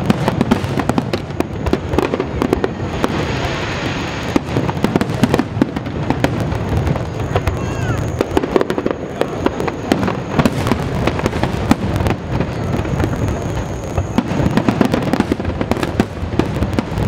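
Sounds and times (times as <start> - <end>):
deep fireworks booms: 0.0 - 17.0
fireworks crackling and popping: 0.0 - 17.0.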